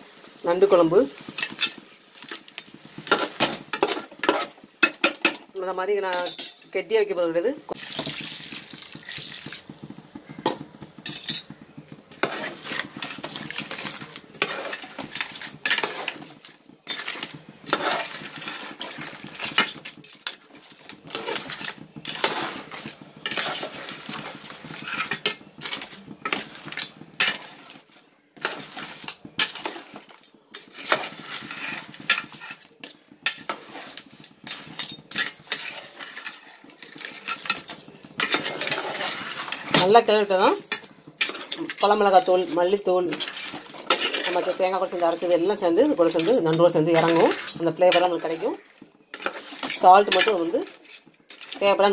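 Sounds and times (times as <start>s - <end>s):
metal spoon scraping pot: 1.3s - 5.5s, 7.8s - 51.9s.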